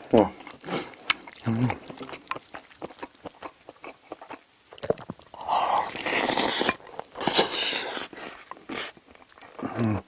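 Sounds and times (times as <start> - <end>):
wet chewing clicks: 0.4 - 9.7.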